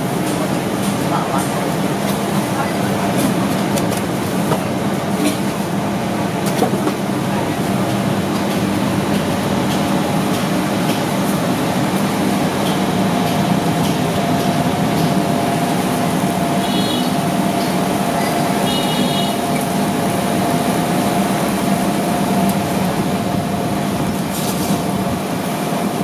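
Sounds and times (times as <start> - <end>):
loud mechanical hum: 0.0 - 26.0.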